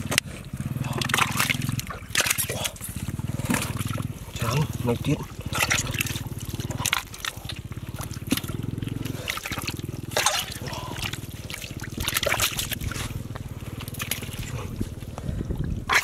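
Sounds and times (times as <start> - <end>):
hands digging in mud: 0.0 - 15.2
muddy water trickling and splashing: 0.0 - 16.0.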